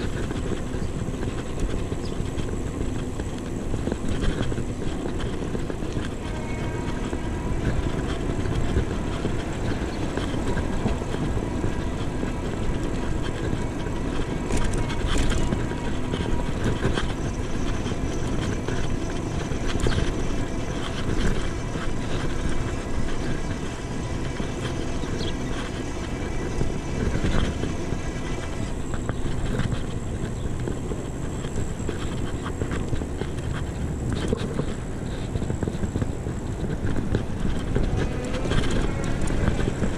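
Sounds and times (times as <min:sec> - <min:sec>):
bicycle tyre noise: 0:00.0 - 0:39.9
faint steady whine: 0:00.0 - 0:39.9
wind rumble on microphone: 0:00.0 - 0:39.9.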